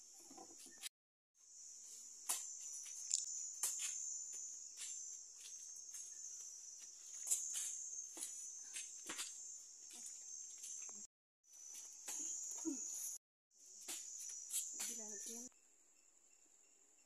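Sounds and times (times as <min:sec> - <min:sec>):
insect chirring: 0:01.4 - 0:17.0.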